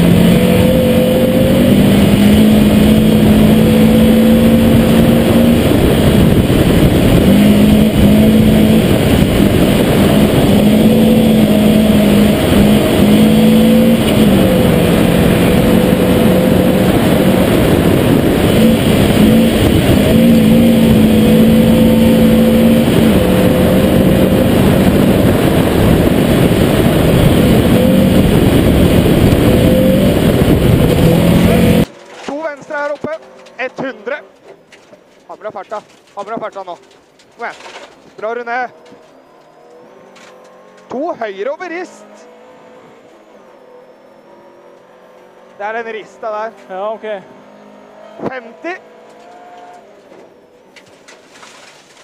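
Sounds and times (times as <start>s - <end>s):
tyre gravel and wind noise: 0.0s - 41.5s, 49.0s - 52.0s
rally car engine revving: 0.0s - 52.0s.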